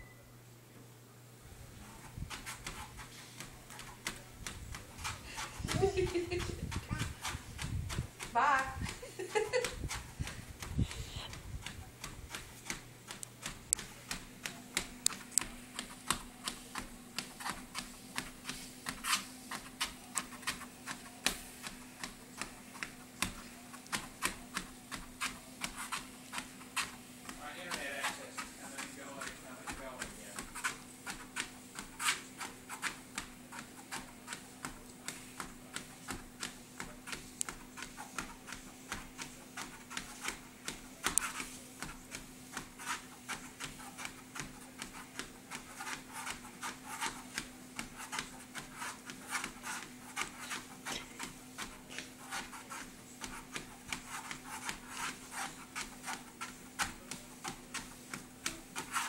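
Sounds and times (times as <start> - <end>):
treadmill motor hum: 0.0 - 59.0
toddler footsteps on treadmill belt: 1.5 - 59.0.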